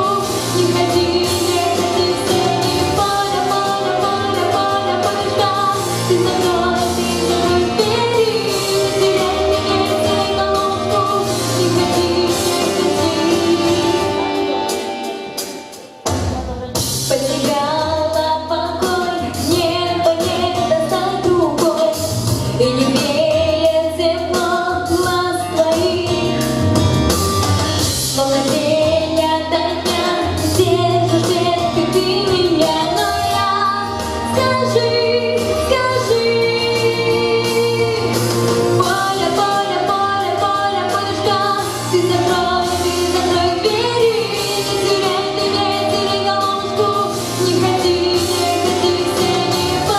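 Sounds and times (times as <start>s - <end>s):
song with vocals and beat: 0.0s - 49.9s.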